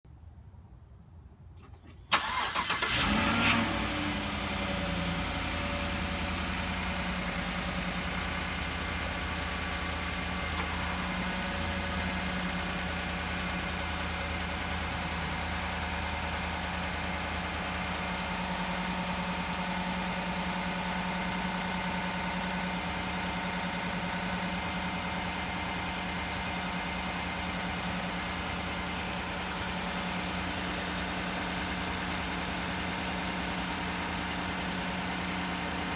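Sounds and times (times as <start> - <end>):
truck engine idling: 1.5 - 35.9.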